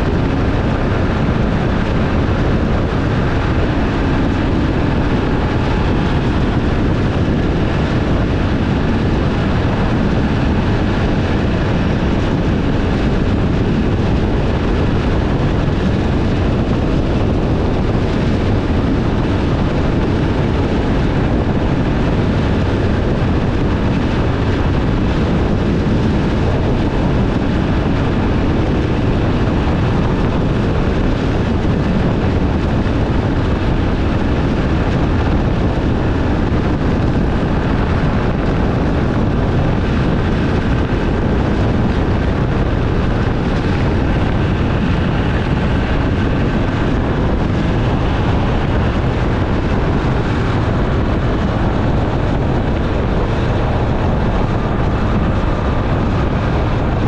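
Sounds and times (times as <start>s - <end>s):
motorcycle engine: 0.0s - 57.0s
tyre and wind rush: 0.0s - 57.0s.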